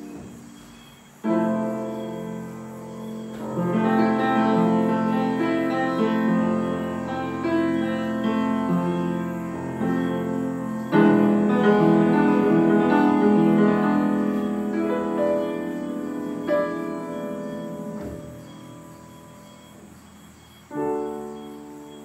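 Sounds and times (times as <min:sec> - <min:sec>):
piano chords and melody: 0:00.0 - 0:22.0.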